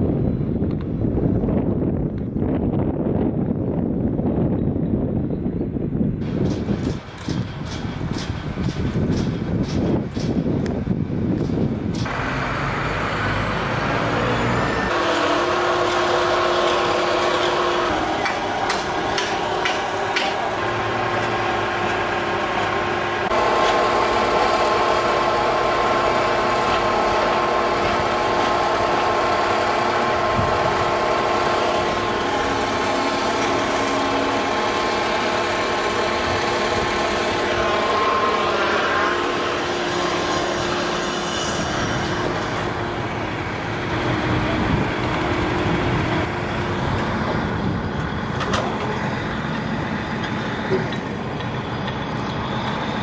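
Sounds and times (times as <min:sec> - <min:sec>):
crane machinery whine and hum: 0:00.0 - 0:53.0.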